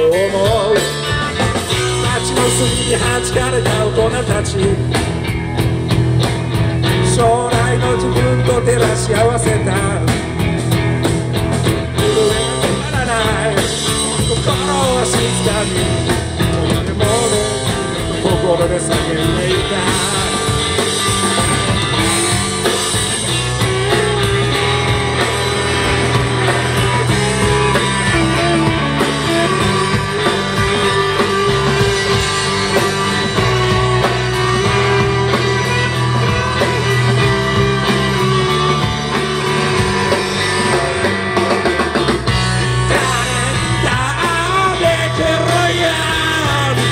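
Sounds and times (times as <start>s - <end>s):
lead guitar long held notes: 0.0s - 46.9s
live rock band playing: 0.0s - 46.9s.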